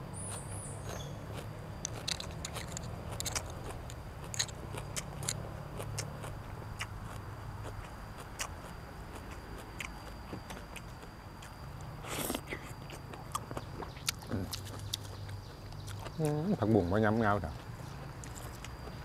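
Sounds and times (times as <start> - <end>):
person chewing food: 0.3 - 16.5, 17.5 - 19.0.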